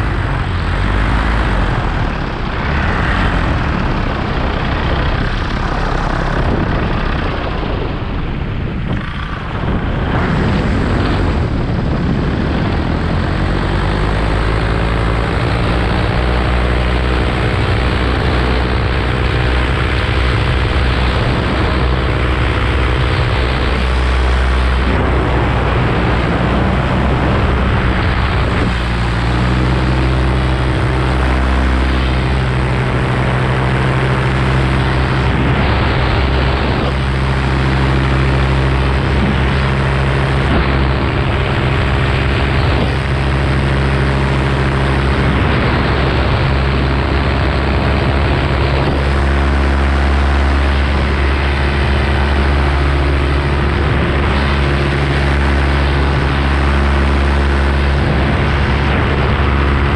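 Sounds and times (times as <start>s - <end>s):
paramotor engine drone: 0.0s - 59.9s.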